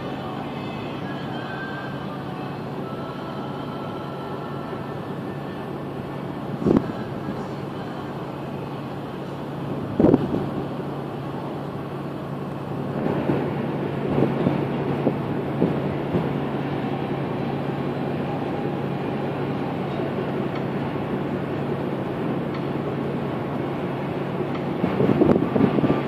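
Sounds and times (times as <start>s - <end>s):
boat engine humming: 0.0s - 26.0s
wind and water rushing: 0.0s - 26.0s.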